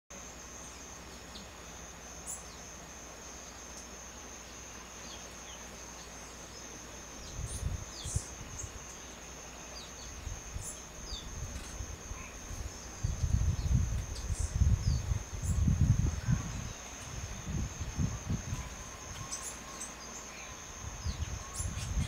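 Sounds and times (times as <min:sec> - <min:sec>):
insect trilling: 0:00.4 - 0:22.0.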